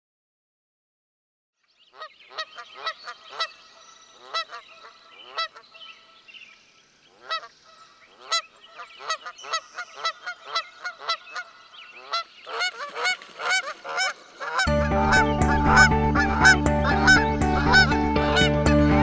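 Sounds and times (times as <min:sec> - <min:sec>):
geese honking: 0:02.0 - 0:03.6, 0:04.2 - 0:06.2, 0:07.1 - 0:19.0.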